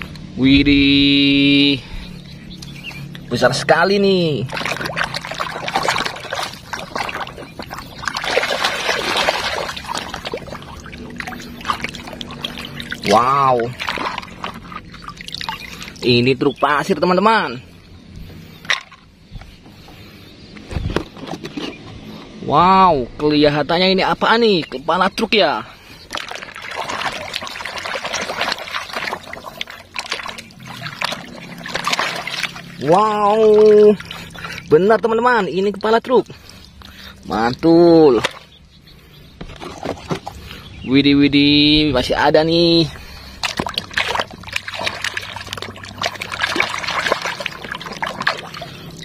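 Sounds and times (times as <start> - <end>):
muddy water splashing: 1.2 - 20.2, 23.7 - 40.9, 41.6 - 49.0.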